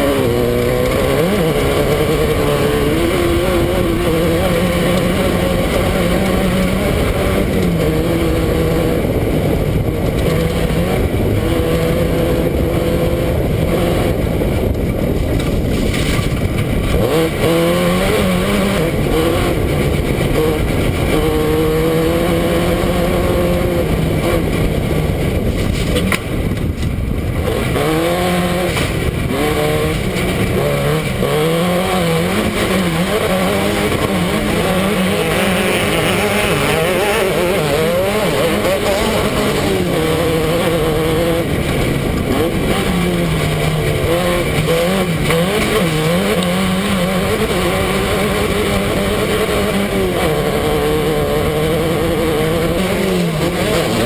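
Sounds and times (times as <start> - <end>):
constant rushing noise: 0.0 - 54.0
race car engine revving: 0.0 - 54.0.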